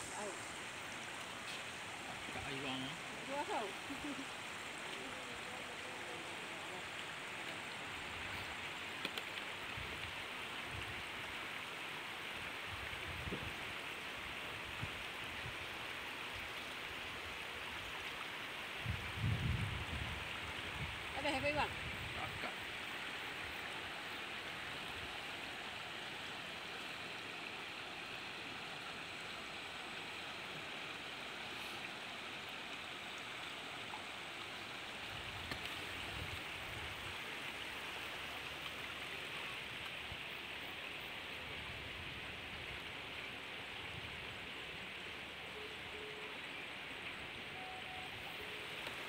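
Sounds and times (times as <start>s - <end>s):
rain: 0.0s - 49.0s
running floodwater: 0.0s - 49.0s.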